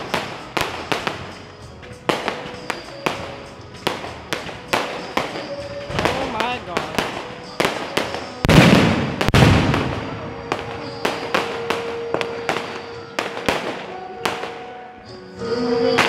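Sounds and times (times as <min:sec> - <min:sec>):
heavy fireworks booms: 0:00.0 - 0:14.9
fireworks bangs and crackles: 0:00.0 - 0:16.0.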